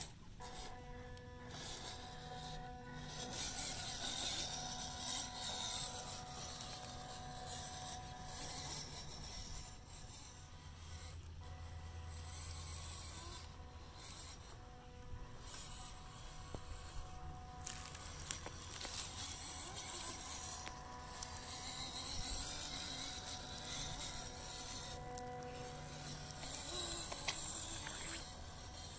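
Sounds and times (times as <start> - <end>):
toy car motor whining: 0.0 - 28.9.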